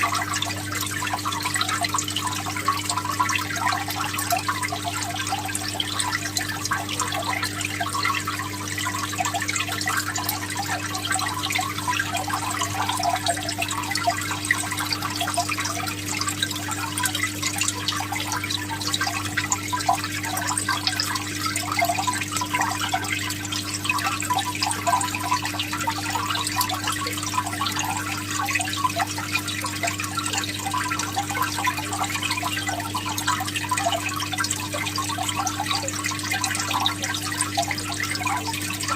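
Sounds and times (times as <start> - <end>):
aquarium water bubbling: 0.0 - 38.9
pump humming: 0.0 - 38.9.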